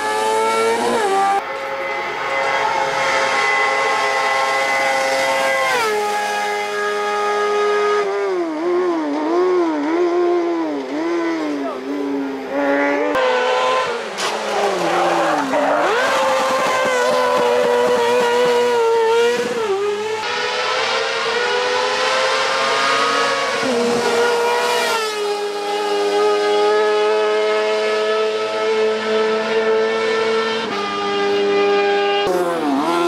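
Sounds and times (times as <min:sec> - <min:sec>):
high-revving motorcycle engines: 0:00.0 - 0:33.0.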